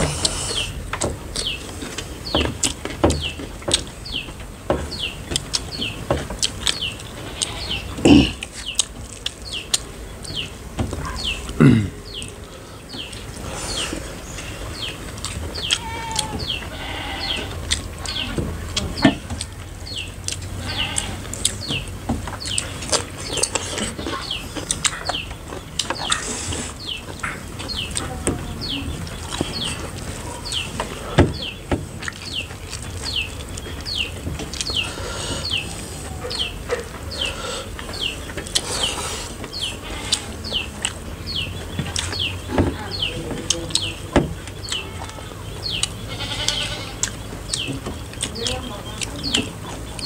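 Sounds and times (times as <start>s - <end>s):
bird chirping: 0.0s - 50.0s
open-mouthed chewing: 0.0s - 50.0s.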